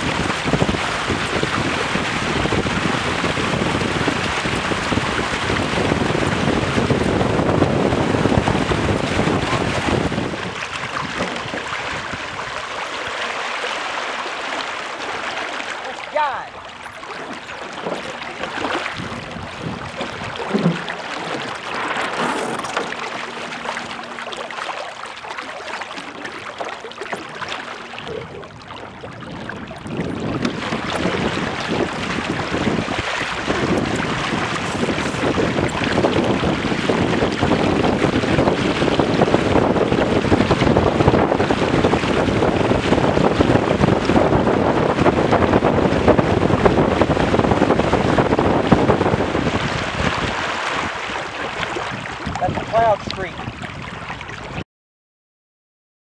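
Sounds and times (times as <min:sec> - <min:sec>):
wind buffeting microphone: 0:00.0 - 0:13.4, 0:16.0 - 0:24.6, 0:25.7 - 0:54.6
water rushing along boat hulls: 0:00.0 - 0:54.6.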